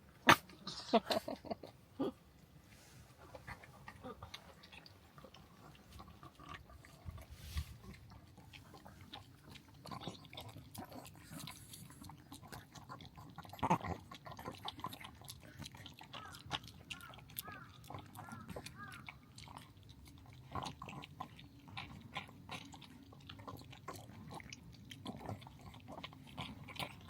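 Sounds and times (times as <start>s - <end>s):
dog chewing a treat: 3.2s - 27.0s.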